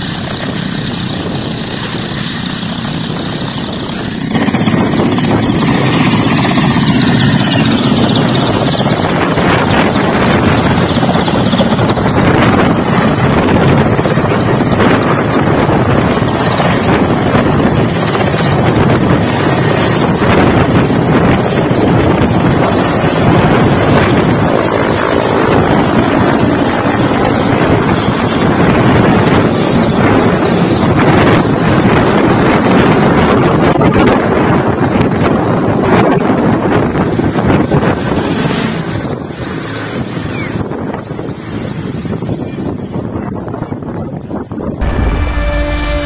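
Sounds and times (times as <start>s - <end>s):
helicopter rotor and turbine noise: 0.0s - 46.0s.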